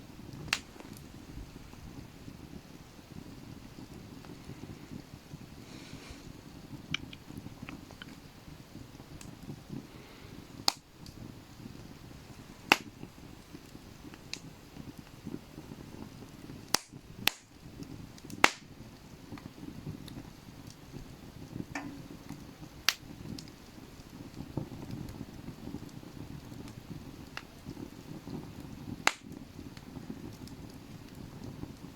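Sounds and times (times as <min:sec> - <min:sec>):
burning wood popping: 0:00.0 - 0:31.9
campfire crackling: 0:00.0 - 0:31.9.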